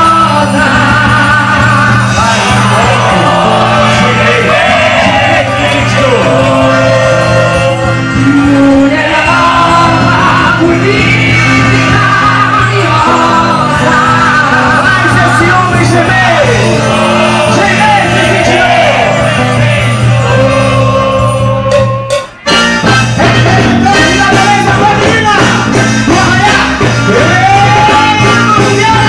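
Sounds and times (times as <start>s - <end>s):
live band music: 0.0s - 29.0s
person singing: 0.0s - 29.0s.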